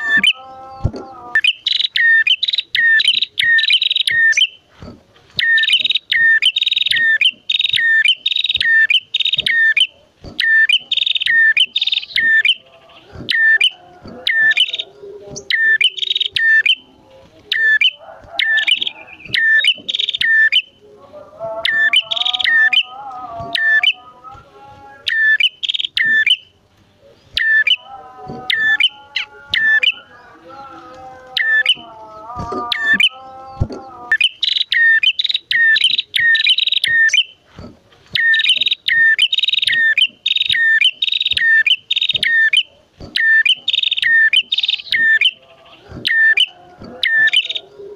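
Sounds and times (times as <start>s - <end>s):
birds calling sharp high notes: 0.0s - 4.7s, 5.3s - 20.8s, 21.6s - 24.4s, 25.0s - 47.9s
low warbling bird voice: 0.0s - 47.9s.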